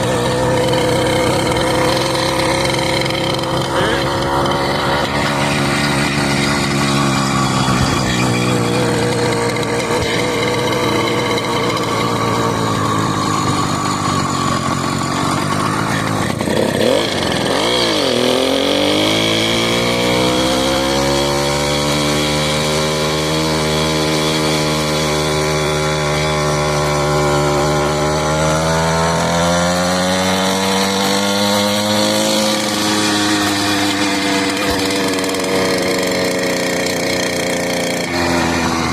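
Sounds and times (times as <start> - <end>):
small motorbike engine revving: 0.0 - 38.9.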